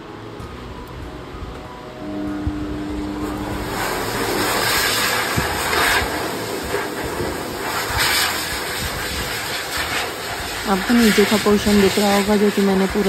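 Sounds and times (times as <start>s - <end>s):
blower dryer air rushing: 0.0s - 13.0s
dryer low hum: 0.0s - 13.0s.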